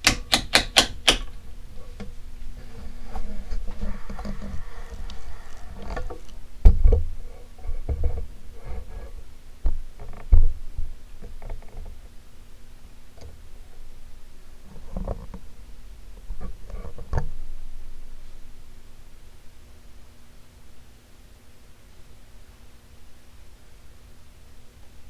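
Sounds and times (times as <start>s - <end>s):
ceiling fan humming: 0.0s - 25.0s.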